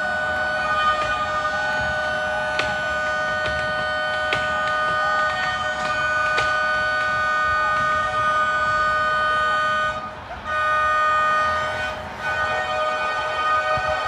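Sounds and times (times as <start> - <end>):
car horns blaring: 0.0 - 14.0.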